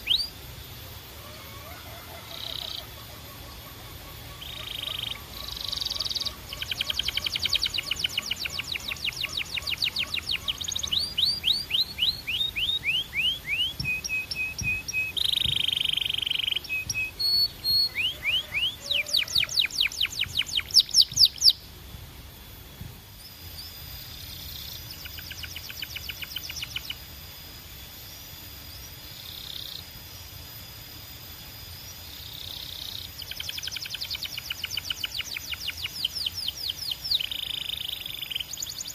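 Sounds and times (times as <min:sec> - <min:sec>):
canary singing: 0:00.0 - 0:00.4, 0:01.2 - 0:21.7, 0:23.5 - 0:27.2, 0:32.1 - 0:38.9.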